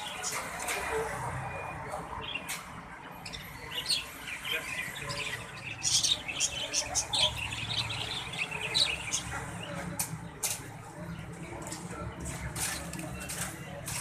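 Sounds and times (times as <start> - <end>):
caged birds chirping: 0.0 - 14.0.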